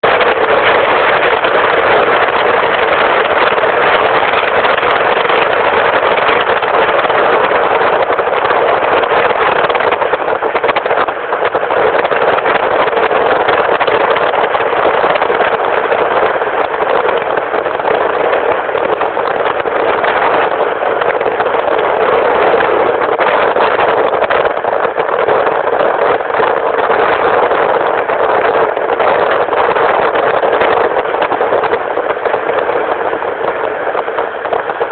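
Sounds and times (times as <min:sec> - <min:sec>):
strong wind rushing: 0:00.0 - 0:34.9.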